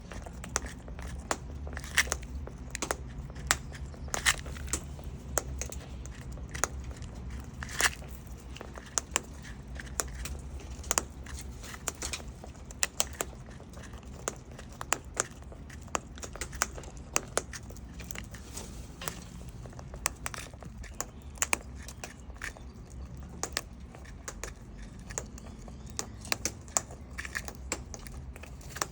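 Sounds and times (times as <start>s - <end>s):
bird beak crunching food: 0.0s - 28.9s.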